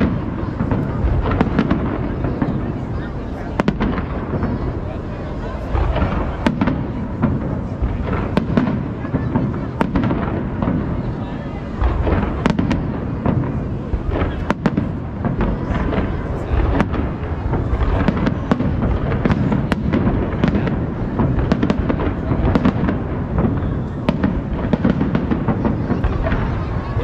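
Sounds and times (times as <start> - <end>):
fireworks booms and pops: 0.0 - 27.0.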